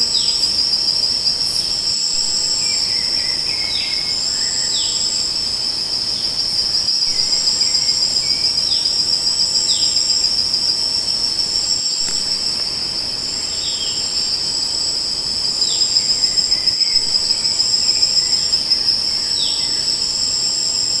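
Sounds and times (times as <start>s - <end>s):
high-pitched insect chorus: 0.0s - 21.0s
thin insect trill: 0.0s - 21.0s.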